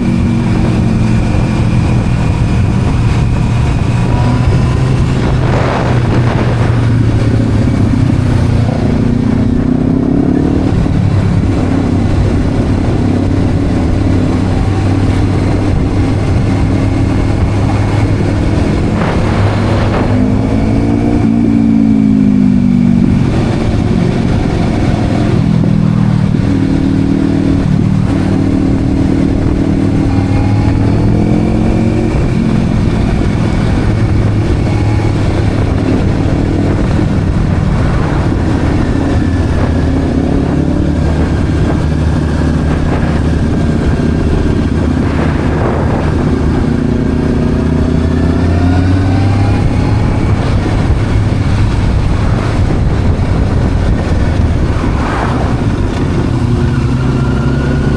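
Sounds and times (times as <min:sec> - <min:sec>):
motorcycle engine revving: 0:00.0 - 0:57.9
road and wind noise: 0:00.0 - 0:57.9.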